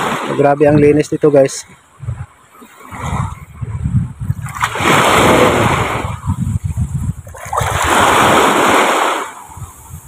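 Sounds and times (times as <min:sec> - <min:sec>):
shallow seawater washing: 0:00.0 - 0:10.0
wind buffeting microphone: 0:00.0 - 0:10.0.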